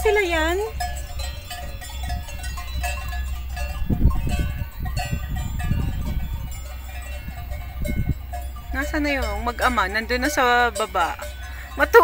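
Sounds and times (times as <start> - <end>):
cowbells clanking: 0.0 - 12.0
steady low rumble: 0.0 - 12.0.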